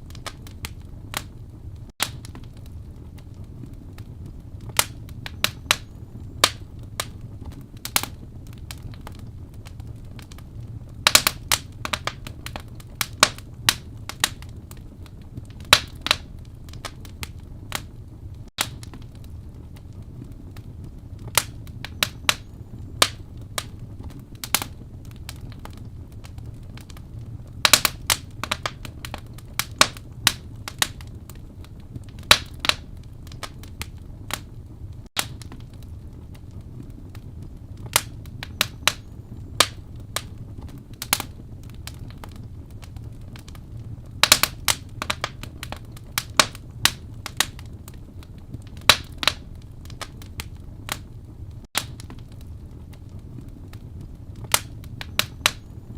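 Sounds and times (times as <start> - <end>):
low rush of flame: 0.0 - 55.9
wood fire crackling and popping: 0.0 - 55.9.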